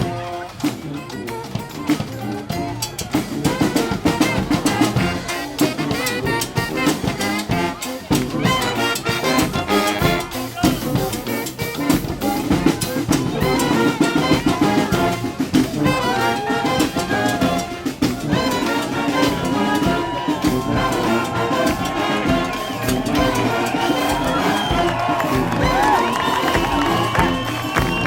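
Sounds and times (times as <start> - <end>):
brass band playing: 0.0 - 28.0
driving drum beat: 0.0 - 28.0
horn holding long note: 3.5 - 28.0.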